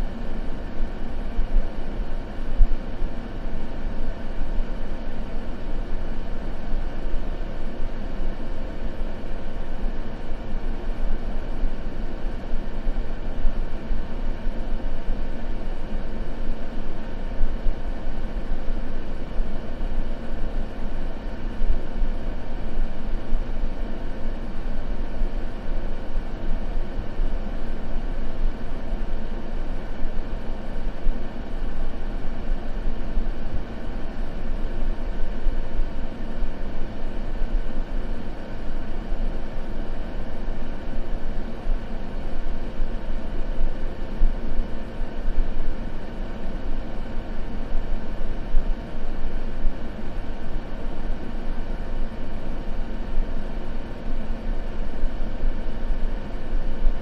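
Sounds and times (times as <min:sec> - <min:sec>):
white noise rush: 0:00.0 - 0:57.0.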